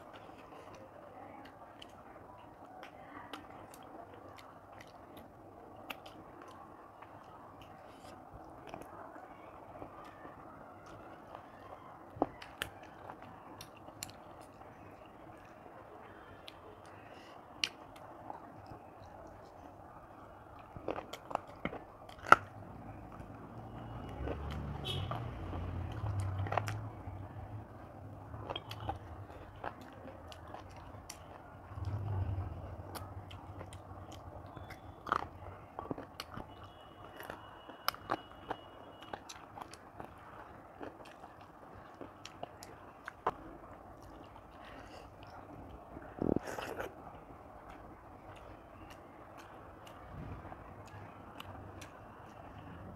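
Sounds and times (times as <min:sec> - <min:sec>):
person chewing and crunching: 0:00.0 - 0:52.6.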